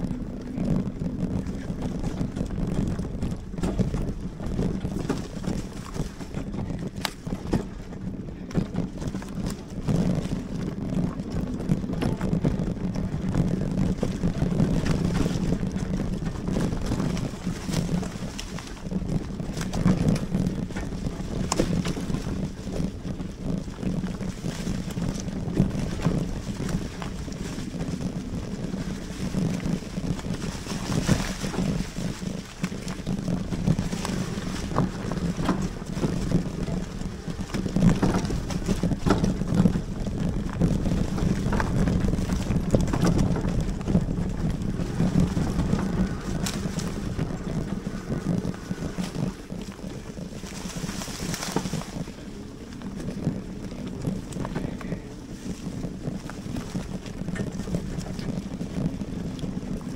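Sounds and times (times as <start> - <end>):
bike knocks and rattles: 0.0 - 59.9
bike tyre and drivetrain noise: 0.0 - 59.9
wind buffeting microphone: 0.0 - 59.9.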